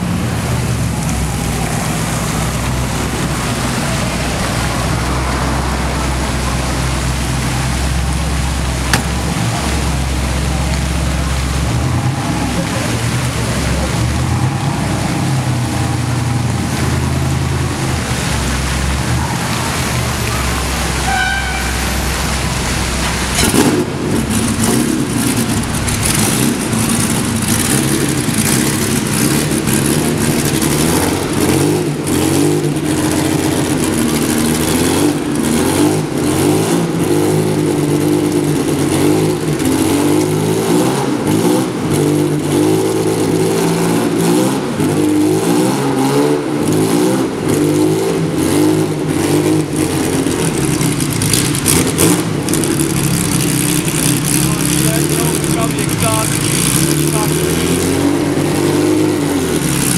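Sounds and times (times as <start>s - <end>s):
race car engine idling and revving: 0.0s - 59.9s.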